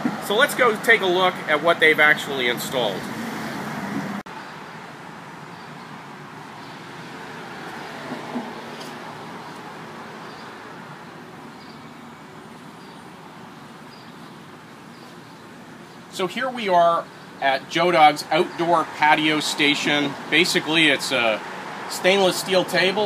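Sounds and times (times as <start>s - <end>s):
passing cars: 0.0s - 15.9s, 17.1s - 23.0s.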